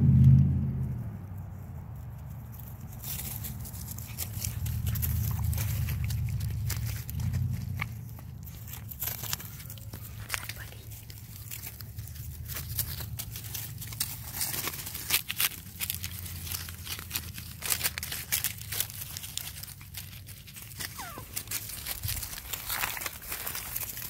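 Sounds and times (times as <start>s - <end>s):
dry leaves rustling and crackling: 1.5s - 24.0s.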